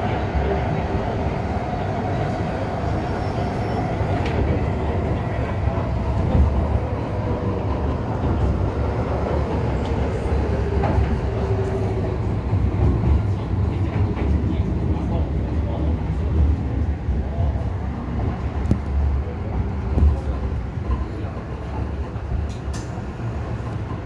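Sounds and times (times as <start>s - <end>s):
wheels rumbling on track: 0.0s - 24.0s.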